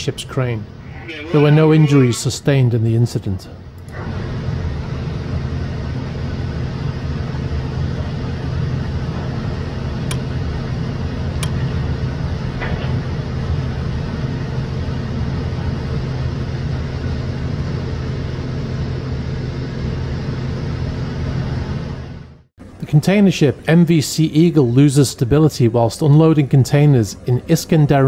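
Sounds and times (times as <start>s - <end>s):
low machinery drone: 0.0s - 28.0s.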